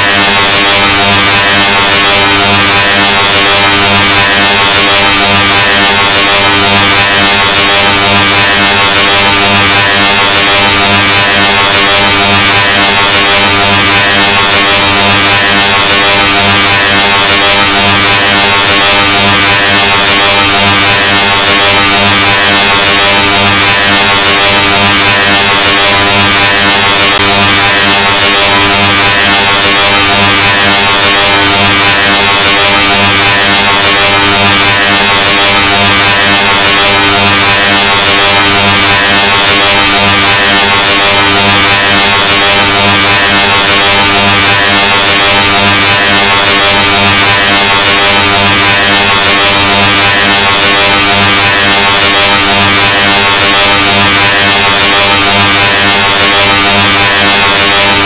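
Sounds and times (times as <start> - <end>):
distorted buzz with hiss: 0.0 - 50.8.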